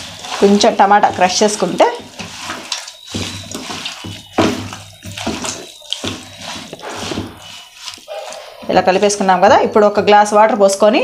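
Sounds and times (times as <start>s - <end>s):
wet squelching of vegetables by hand: 0.0s - 10.2s.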